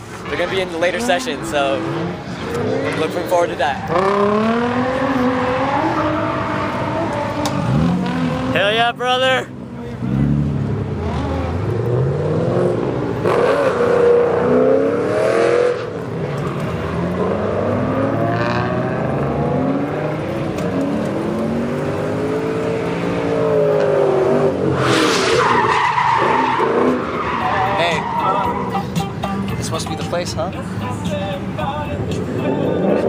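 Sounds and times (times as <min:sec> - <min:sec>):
cars revving past: 0:00.0 - 0:08.8, 0:09.5 - 0:33.0.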